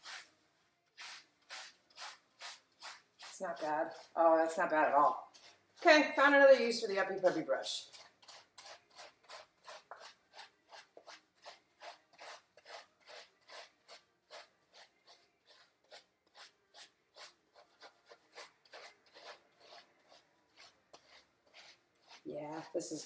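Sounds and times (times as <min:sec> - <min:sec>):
brush rasping through wet fur: 0:00.9 - 0:23.0.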